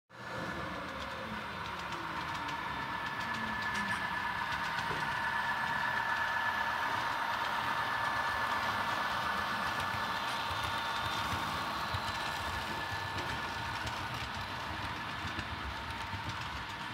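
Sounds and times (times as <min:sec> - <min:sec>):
model locomotive drone with whine: 0:00.1 - 0:16.9.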